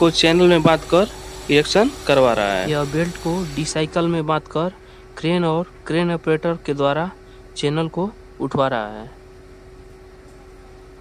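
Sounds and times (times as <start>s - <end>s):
low hiss: 0.0s - 9.1s
faint constant hum: 0.0s - 11.0s.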